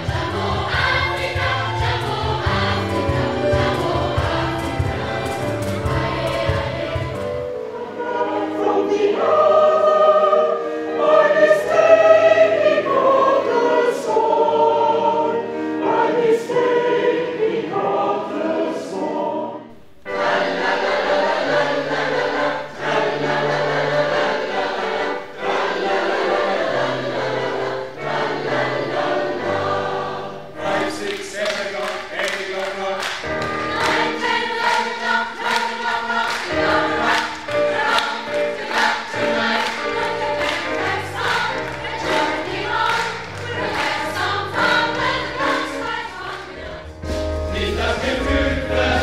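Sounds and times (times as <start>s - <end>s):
choir singing: 0.0s - 49.0s.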